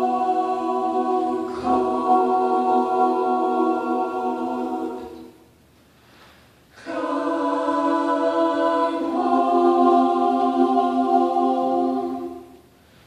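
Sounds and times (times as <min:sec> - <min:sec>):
choir singing held chords: 0:00.0 - 0:05.6, 0:06.7 - 0:12.8.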